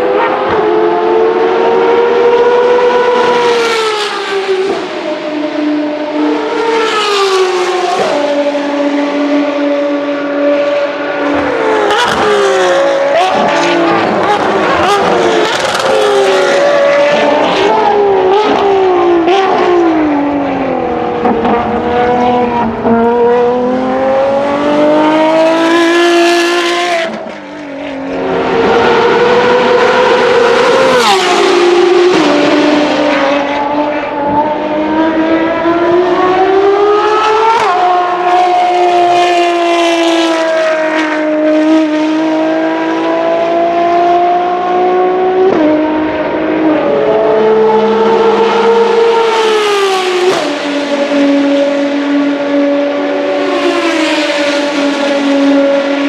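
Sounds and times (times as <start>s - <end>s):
sports car engine at high revs: 7.4s - 56.0s.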